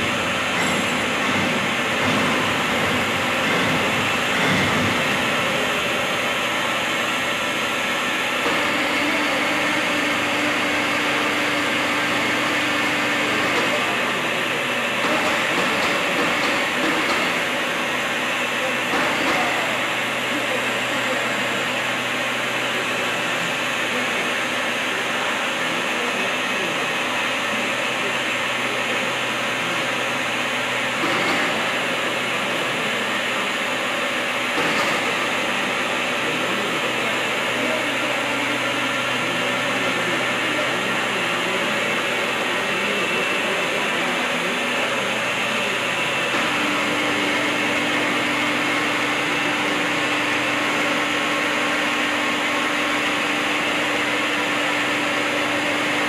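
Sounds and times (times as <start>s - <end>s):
machine motor hum and whir: 0.0s - 56.0s.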